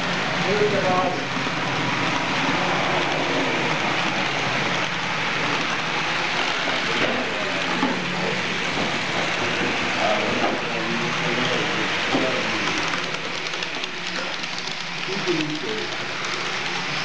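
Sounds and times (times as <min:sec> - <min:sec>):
model train wheels rolling on rails: 0:00.0 - 0:17.0.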